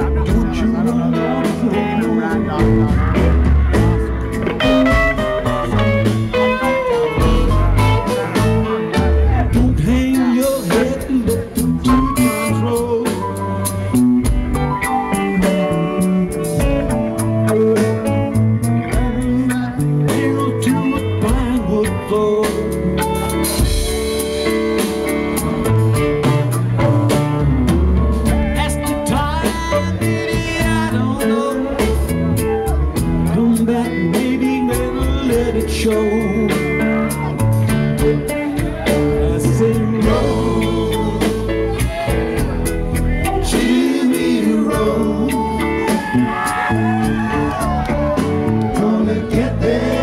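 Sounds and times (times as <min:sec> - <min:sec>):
person singing: 0:00.0 - 0:14.0, 0:14.6 - 0:23.6, 0:28.4 - 0:50.0
live rock band playing: 0:00.0 - 0:50.0.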